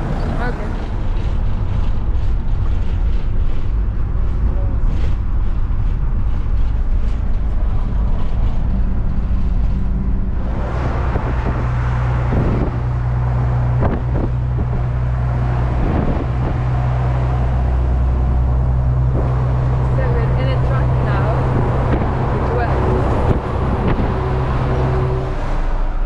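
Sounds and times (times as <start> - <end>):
engine drone inside vehicle: 0.0 - 26.0
road noise: 0.0 - 26.0.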